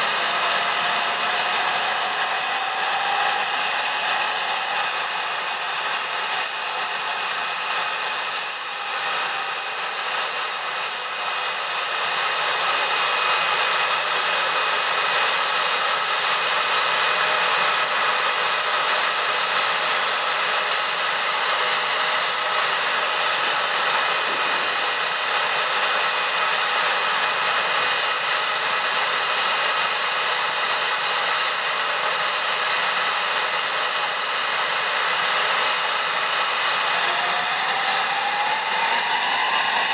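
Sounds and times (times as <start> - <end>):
jet engine turbine whine: 0.0 - 39.9.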